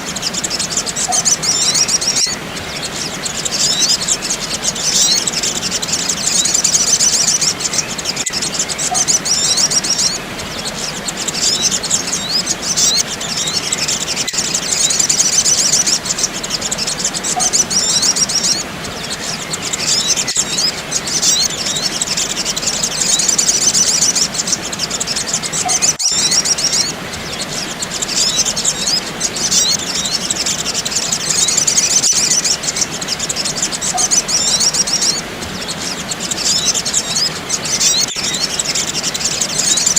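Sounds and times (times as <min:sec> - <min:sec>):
bird high-pitched chirps: 0:00.0 - 0:39.9
steady hiss: 0:00.0 - 0:39.9.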